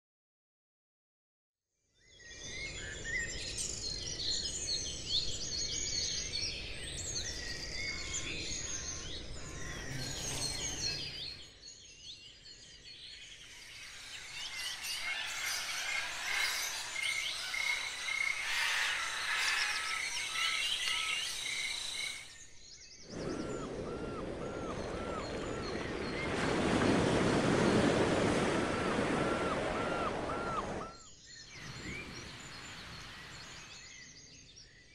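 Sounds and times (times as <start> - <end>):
birds singing and chirping: 2.1 - 34.9.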